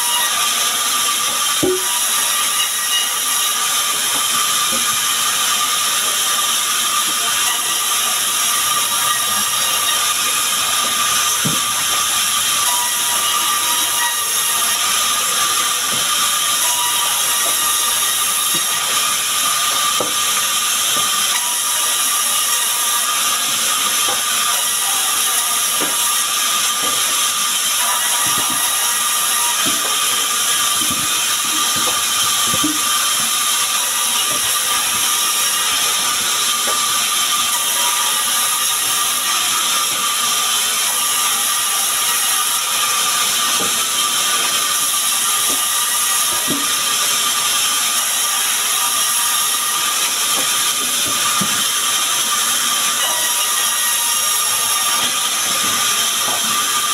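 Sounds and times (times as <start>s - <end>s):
band saw cutting logs: 0.0s - 56.9s.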